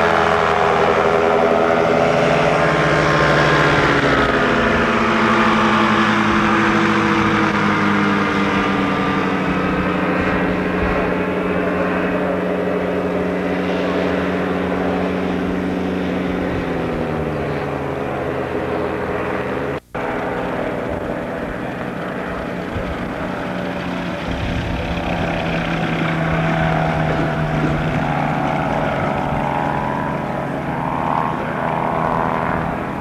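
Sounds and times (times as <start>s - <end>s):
gyrocopter engine and propeller drone: 0.0s - 33.0s
ultralight aircraft engine: 0.0s - 33.0s.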